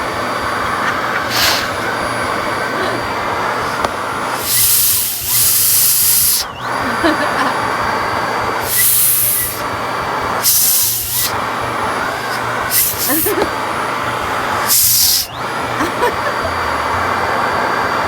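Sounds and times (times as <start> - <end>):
vacuum cleaner motor whine: 0.0 - 18.0
vacuum suction hiss: 0.0 - 18.0.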